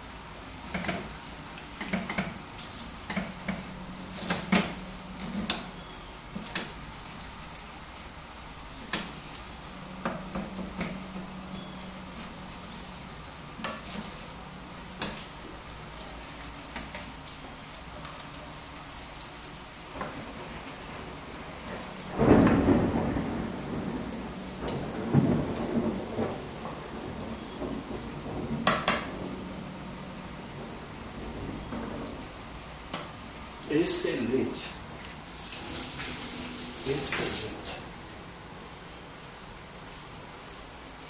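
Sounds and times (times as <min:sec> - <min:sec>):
meat sizzling: 0:00.0 - 0:33.7.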